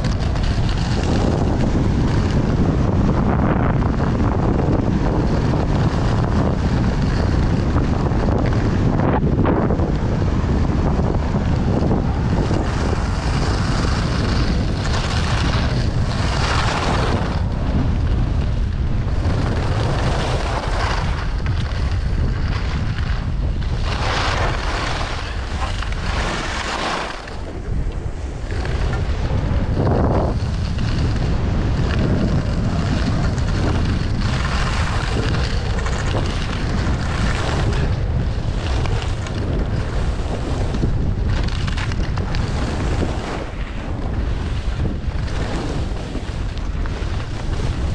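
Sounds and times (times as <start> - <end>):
skis scraping over snow: 0.0 - 47.9
wind on microphone: 0.0 - 47.9.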